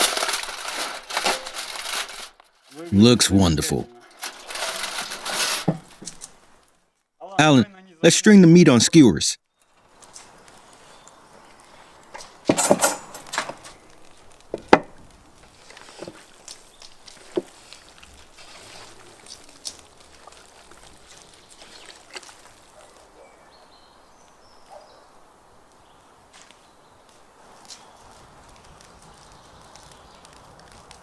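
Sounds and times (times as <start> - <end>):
small clicks and rustles: 0.0 - 2.9, 4.0 - 7.1, 9.4 - 23.2, 25.6 - 31.0.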